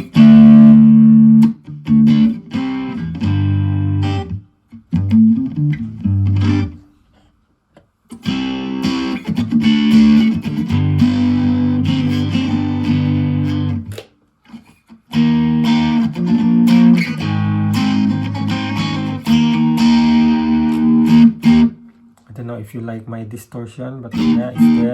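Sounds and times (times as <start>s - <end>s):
distorted electric guitar chords: 0.0s - 6.8s, 8.2s - 13.9s, 15.1s - 21.9s, 24.2s - 24.9s.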